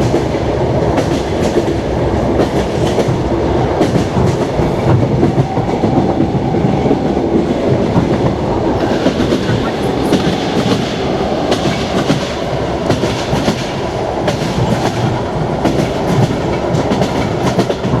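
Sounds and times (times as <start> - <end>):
train car rumble: 0.0 - 18.0.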